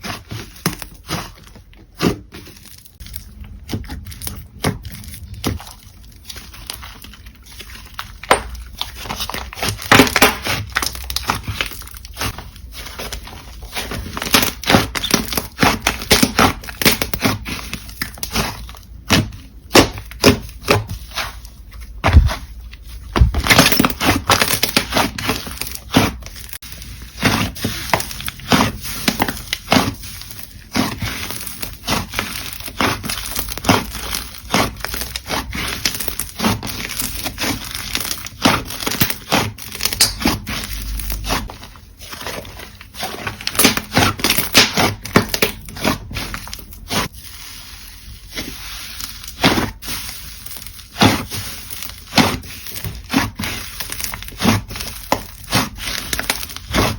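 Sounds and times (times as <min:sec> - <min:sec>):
slime crackling and popping: 0:02.0 - 0:56.9.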